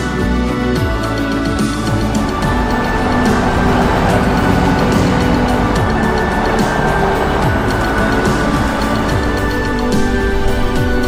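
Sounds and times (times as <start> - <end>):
held chords: 0.8 - 11.0.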